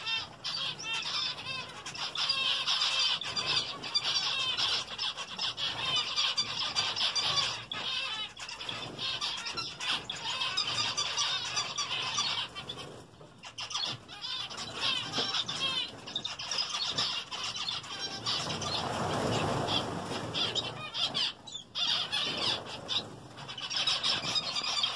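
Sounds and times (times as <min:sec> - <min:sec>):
wings fluttering: 0:00.0 - 0:24.9.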